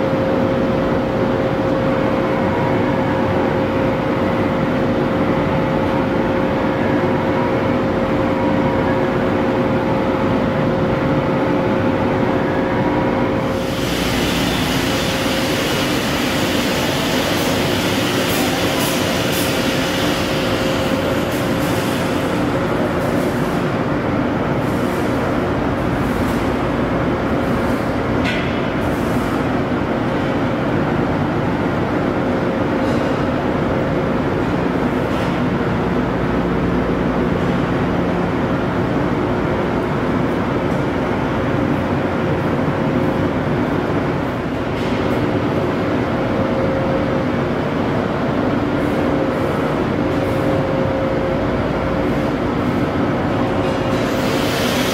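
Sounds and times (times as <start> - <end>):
machinery humming: 0.0 - 54.9.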